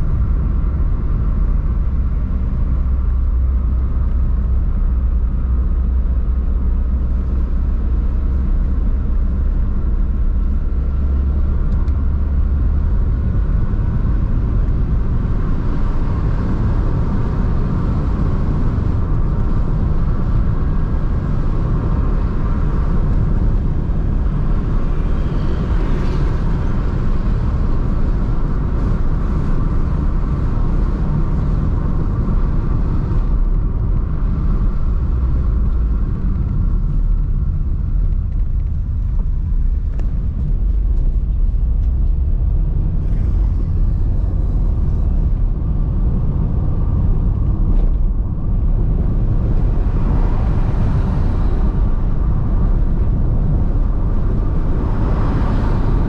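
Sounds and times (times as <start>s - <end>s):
car engine rumble: 0.0s - 56.0s.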